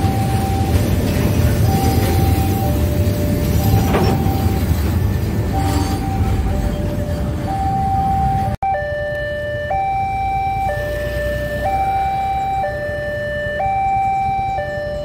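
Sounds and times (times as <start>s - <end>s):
level crossing two-tone alarm: 0.0s - 4.8s, 5.5s - 15.0s
low traffic rumble: 0.0s - 15.0s.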